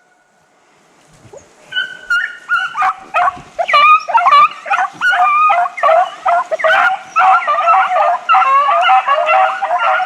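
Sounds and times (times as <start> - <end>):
hounds baying and howling: 1.3 - 10.0.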